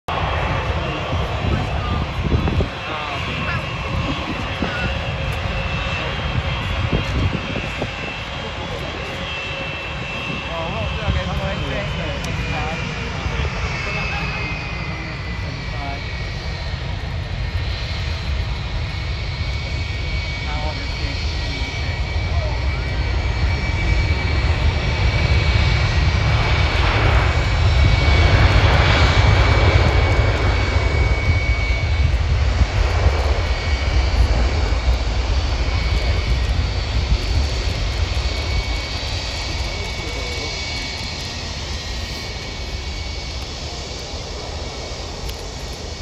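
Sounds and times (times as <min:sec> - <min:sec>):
jet engines at takeoff: 0:00.1 - 0:46.0.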